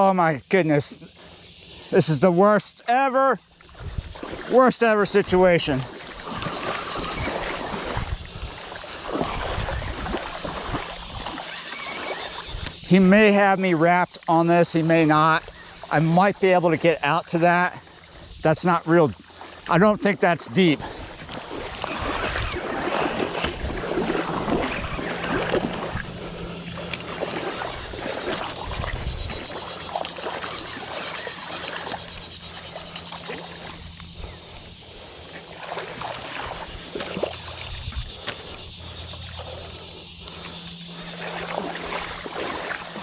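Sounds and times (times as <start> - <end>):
river water splashing: 0.0 - 43.0
steady low hum: 0.0 - 43.0.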